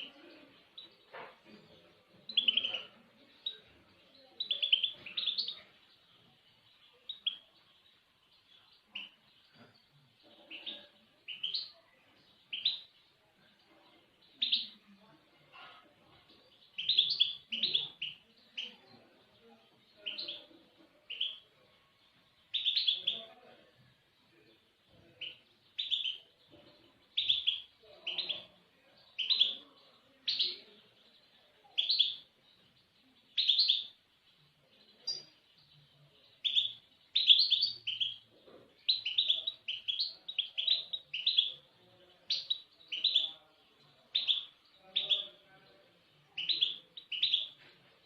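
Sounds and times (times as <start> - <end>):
small songbird chirping: 0.0 - 48.0.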